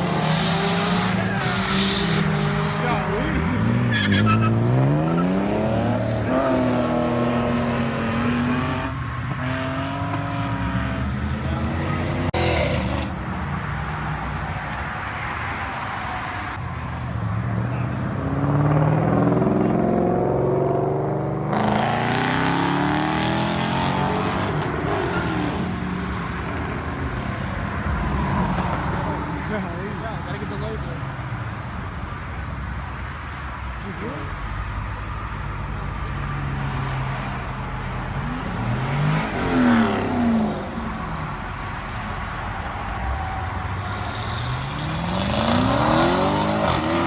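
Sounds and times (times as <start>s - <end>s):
car engines revving hard: 0.0s - 13.4s, 17.5s - 31.2s, 36.3s - 47.0s.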